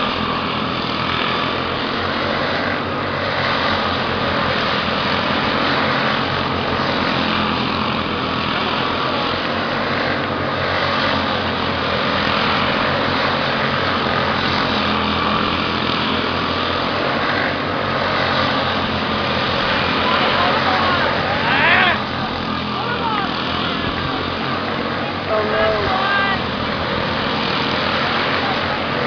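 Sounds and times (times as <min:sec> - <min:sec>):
race car engines droning: 0:00.0 - 0:29.0.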